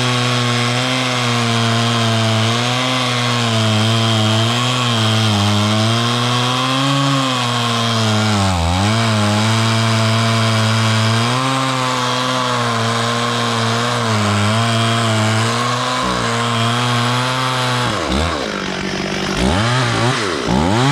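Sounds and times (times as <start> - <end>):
chainsaw cutting wood: 0.0 - 20.9.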